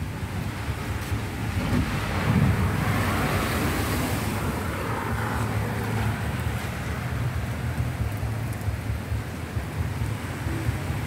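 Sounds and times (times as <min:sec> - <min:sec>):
heavy rain pouring: 0:00.0 - 0:11.0
wind rumble on microphone: 0:00.0 - 0:11.0.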